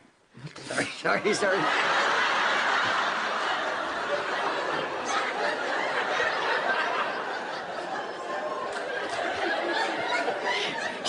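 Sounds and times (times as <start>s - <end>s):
audience laughing: 1.1s - 11.0s.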